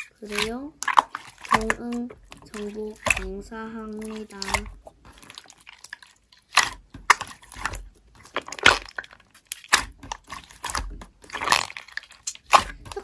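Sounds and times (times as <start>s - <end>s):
slime squelching and popping: 0.0s - 13.0s.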